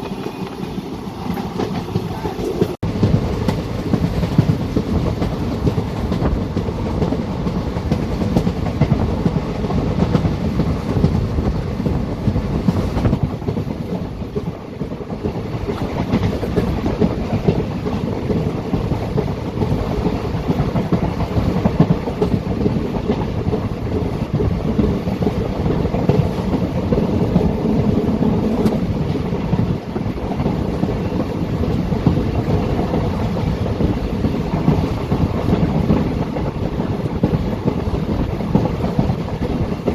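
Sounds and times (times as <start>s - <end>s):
train coaches rumbling: 0.0s - 39.9s
train wheels clicking over rails: 0.0s - 39.9s.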